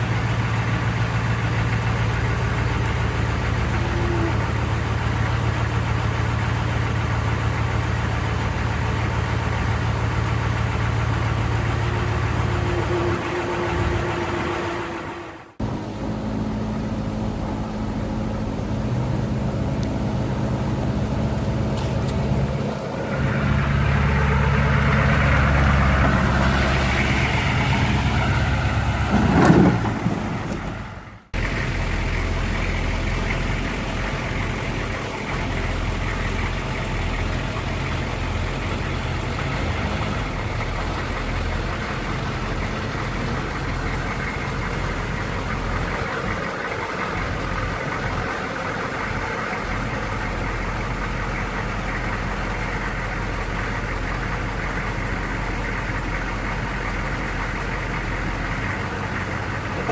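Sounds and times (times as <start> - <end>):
engine idling: 0.0 - 59.9
rising engine whine: 0.0 - 59.9
vehicle engine running: 0.0 - 59.9.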